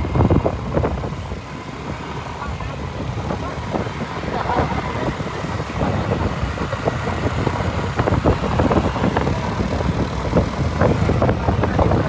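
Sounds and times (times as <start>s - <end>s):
road traffic noise: 0.0s - 12.0s
vehicle engine running: 0.0s - 12.0s.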